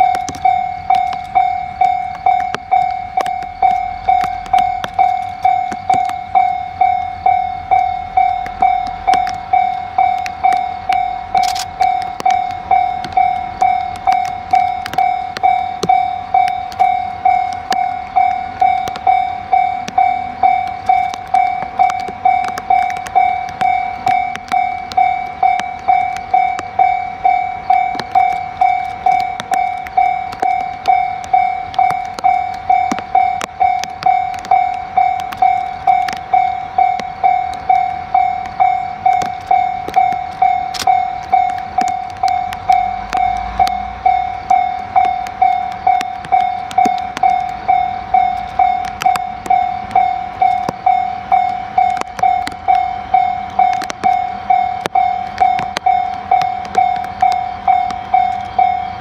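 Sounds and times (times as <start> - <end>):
level crossing warning bell: 0.0 - 59.0.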